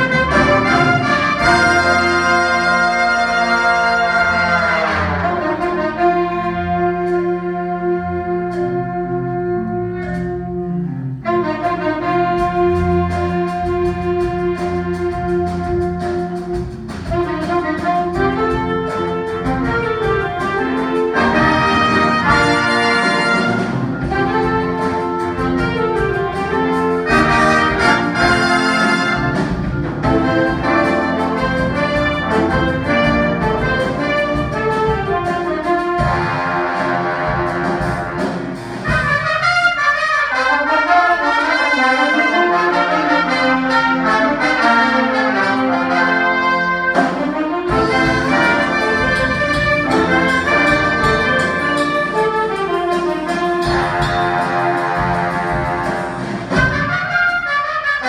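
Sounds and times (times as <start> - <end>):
orchestral brass music: 0.0 - 58.0.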